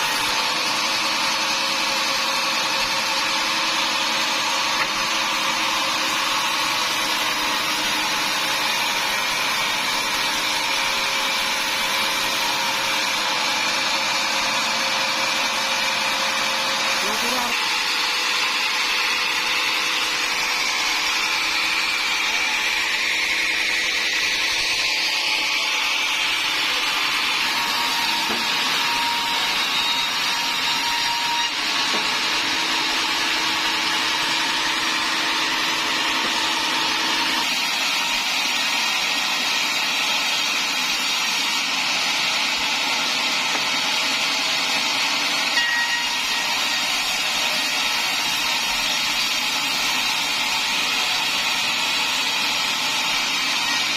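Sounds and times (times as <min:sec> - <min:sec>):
sawmill saw cutting timber: 0:00.0 - 0:53.9.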